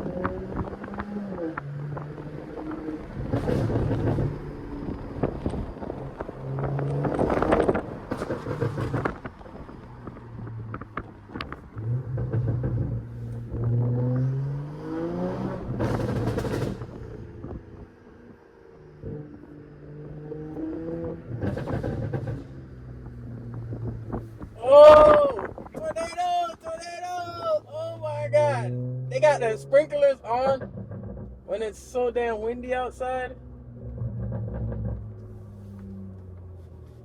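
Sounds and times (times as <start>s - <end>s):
car engine heard from cabin: 0.0s - 37.0s.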